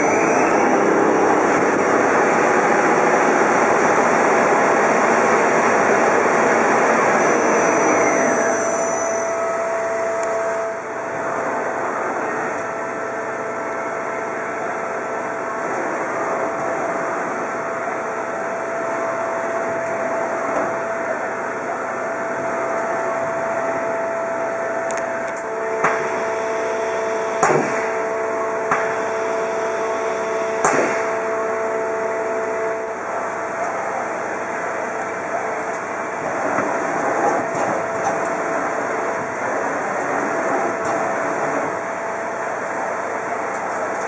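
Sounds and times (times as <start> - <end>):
second machine tone: 0.0 - 42.6
lathe machine hum: 0.0 - 44.0.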